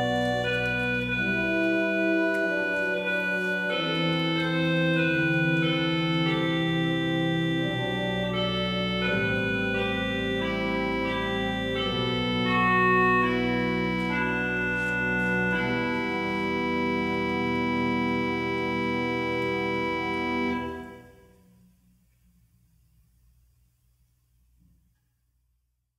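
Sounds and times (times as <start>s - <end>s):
organ playing slow chords: 0.0s - 21.8s.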